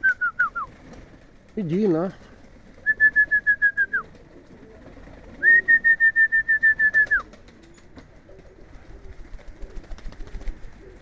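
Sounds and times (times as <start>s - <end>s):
pigeons cooing: 2.1s - 11.0s.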